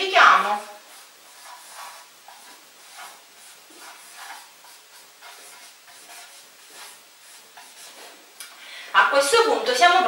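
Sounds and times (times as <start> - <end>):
marker pen on whiteboard: 0.0 - 8.3.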